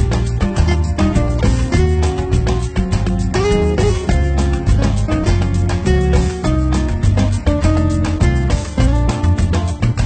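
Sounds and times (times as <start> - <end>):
bright instrumental music: 0.0 - 10.0.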